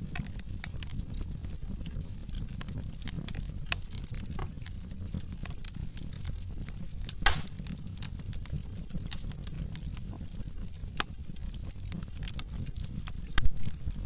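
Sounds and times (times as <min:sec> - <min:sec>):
logs crackling in a fireplace: 0:00.0 - 0:14.0.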